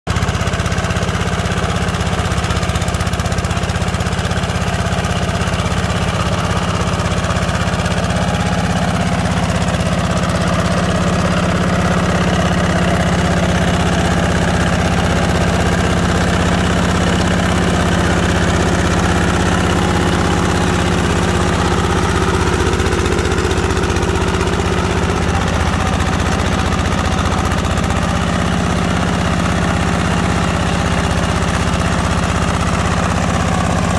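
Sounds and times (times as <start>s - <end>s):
hand tractor engine running: 0.1s - 33.9s.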